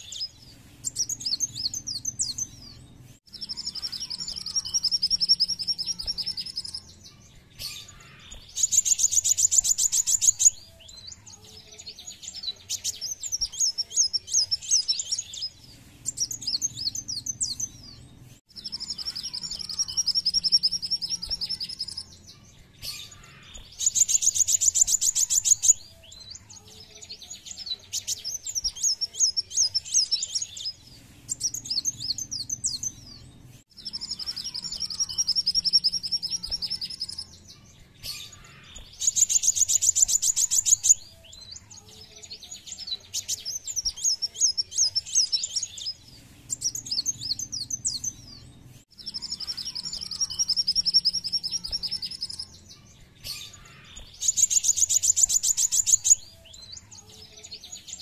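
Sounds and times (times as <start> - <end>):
sunbird twittering and trilling: 0.0 - 58.0.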